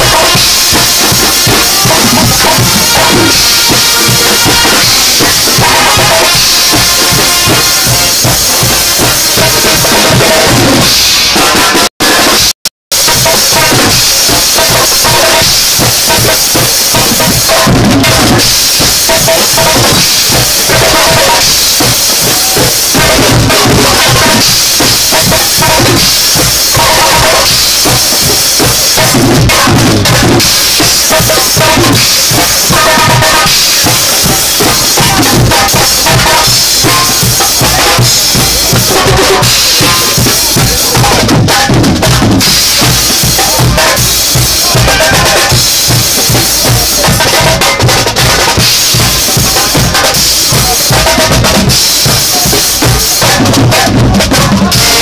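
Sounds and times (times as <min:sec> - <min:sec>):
brass: 0:00.0 - 0:55.0
drum kit beat: 0:00.0 - 0:55.0
street band playing: 0:00.0 - 0:55.0.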